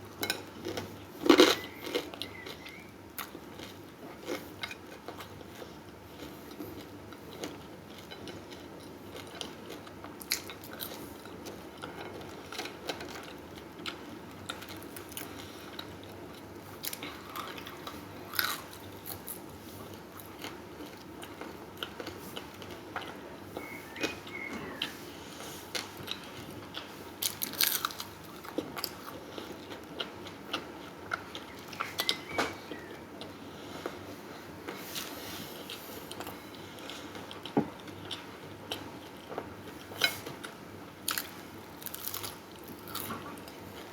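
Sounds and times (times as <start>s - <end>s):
chewing crunchy food: 0.0s - 43.9s.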